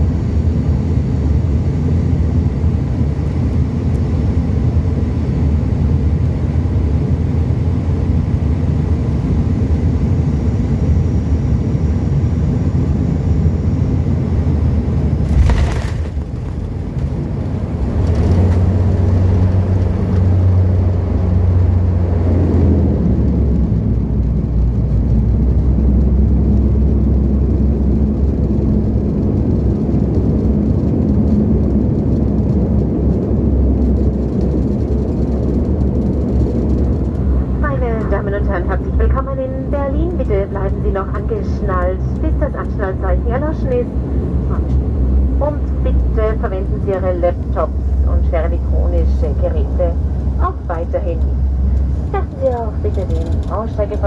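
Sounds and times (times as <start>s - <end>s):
turboprop engine drone: 0.0s - 54.0s.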